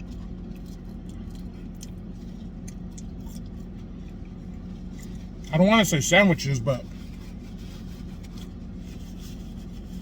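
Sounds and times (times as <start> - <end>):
person chewing fried food: 0.0 - 5.6, 6.9 - 10.0
steady low hum: 0.0 - 10.0.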